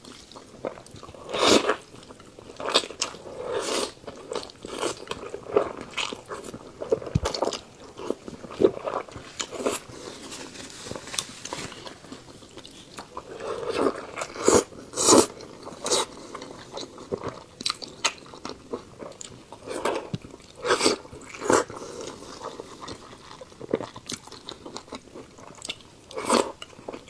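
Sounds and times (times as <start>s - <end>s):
person chewing and crunching food: 0.0s - 27.0s.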